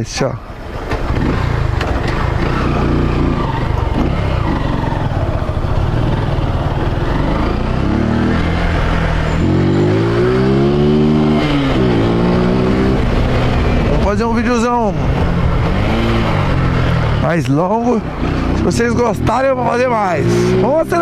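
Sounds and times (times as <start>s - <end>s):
motorcycle engine accelerating: 0.6s - 21.0s.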